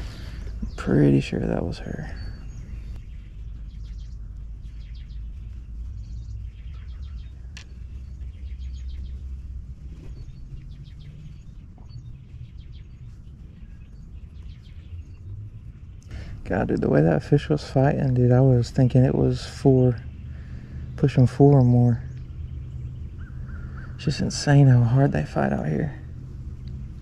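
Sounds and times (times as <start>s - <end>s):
birds chirping in fast trills: 0.0s - 27.0s
low steady rumble: 0.0s - 27.0s.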